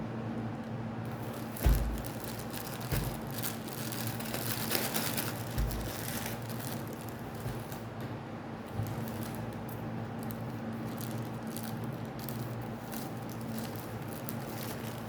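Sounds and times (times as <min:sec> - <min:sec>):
plastic packaging crinkling: 0:01.1 - 0:08.0, 0:08.6 - 0:15.0.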